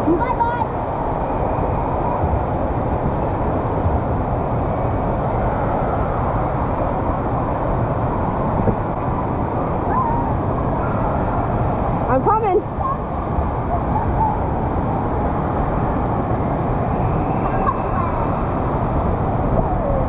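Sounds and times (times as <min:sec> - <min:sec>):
rushing water din: 0:00.0 - 0:20.0.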